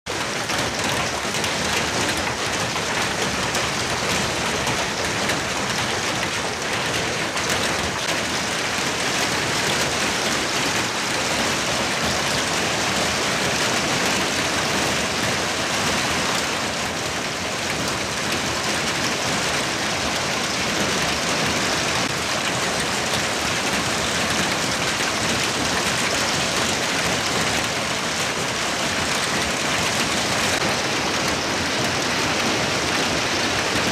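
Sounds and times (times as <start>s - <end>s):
hail pelting pavement and vehicles: 0.1s - 33.9s
rain: 0.1s - 33.9s.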